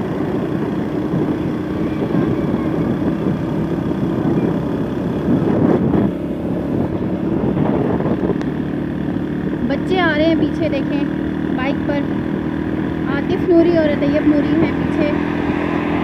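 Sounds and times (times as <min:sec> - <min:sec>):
vehicle engine hum and road noise: 0:00.0 - 0:16.0.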